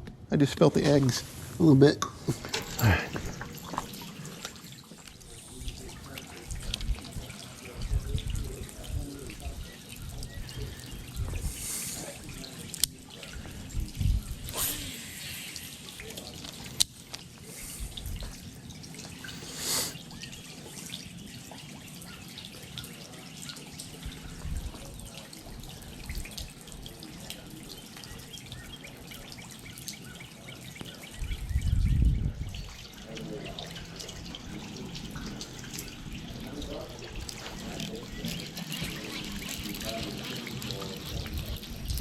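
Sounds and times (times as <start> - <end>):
water dripping and trickling: 0.7 - 42.0.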